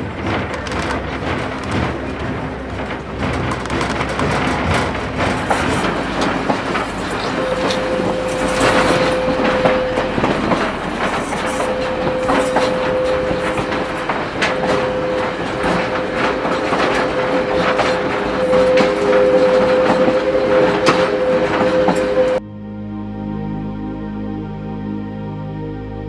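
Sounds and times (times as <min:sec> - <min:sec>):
train wheels clicking on rail joints: 0:00.0 - 0:22.4
steady tone: 0:00.0 - 0:25.5.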